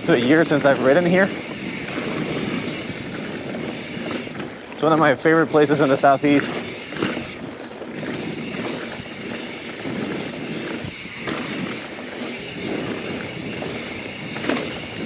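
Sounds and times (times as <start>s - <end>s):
bike tyres rolling on dirt: 0.0s - 15.0s.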